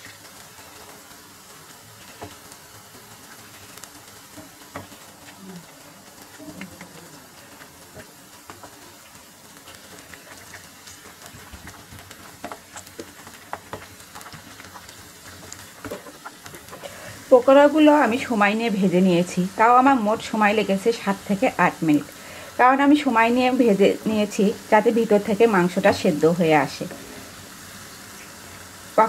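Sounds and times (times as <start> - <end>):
food deep-frying in hot oil: 0.0 - 29.0.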